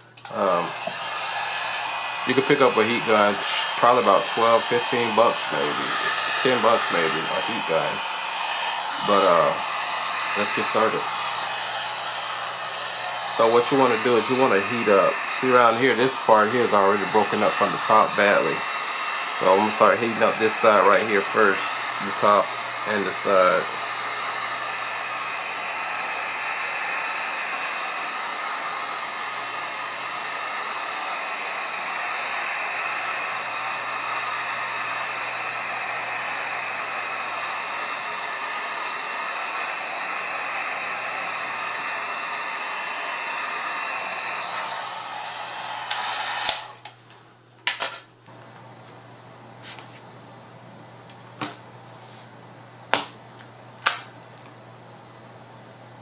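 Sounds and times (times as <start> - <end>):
heat gun blowing with whine: 0.0 - 47.0.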